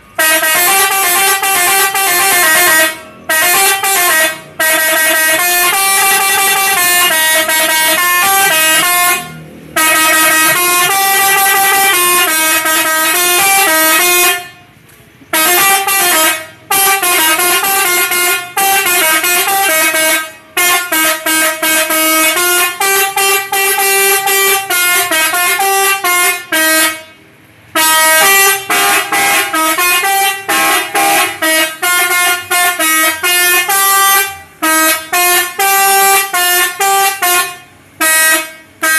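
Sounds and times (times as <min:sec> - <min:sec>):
multi-trumpet horn playing tune: 0:00.1 - 0:14.6, 0:15.3 - 0:27.2, 0:27.8 - 0:38.9.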